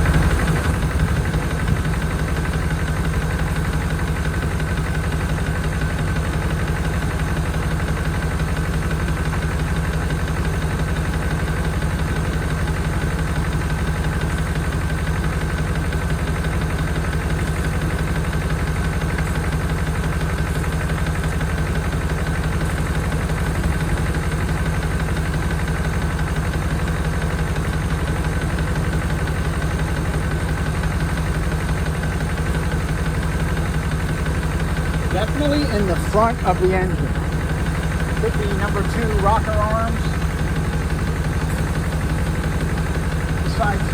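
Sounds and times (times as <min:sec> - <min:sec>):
car engine idling: 0:00.0 - 0:43.9
engine knocking: 0:00.0 - 0:43.9.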